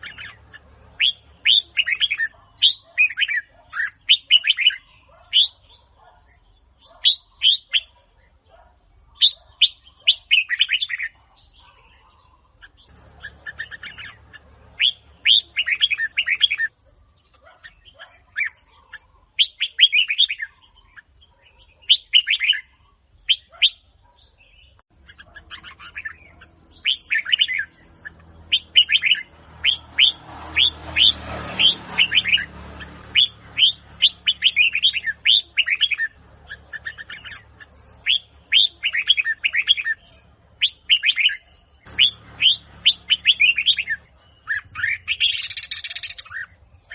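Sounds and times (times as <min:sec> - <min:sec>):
bird singing chirping phrases: 0:00.0 - 0:46.9.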